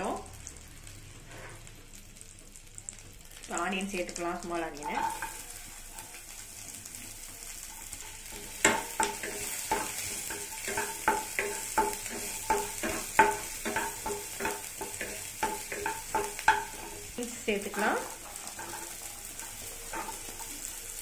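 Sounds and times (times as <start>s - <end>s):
onions sizzling in butter: 0.0s - 21.0s.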